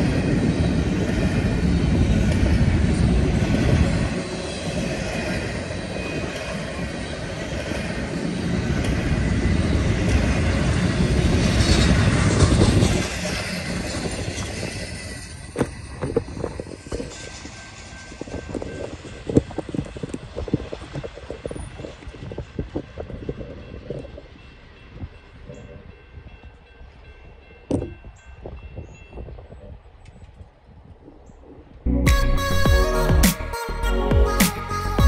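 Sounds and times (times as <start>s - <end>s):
freight train wheels rumbling: 0.0s - 33.2s.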